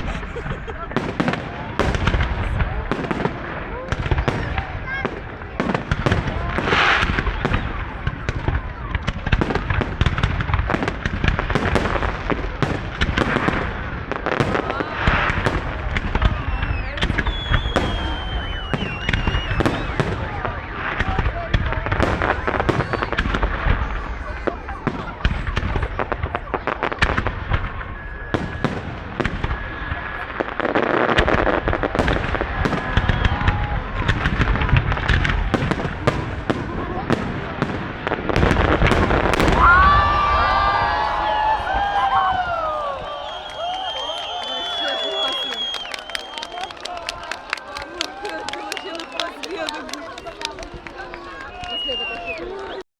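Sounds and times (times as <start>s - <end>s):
fireworks bangs and crackles: 0.0s - 52.8s.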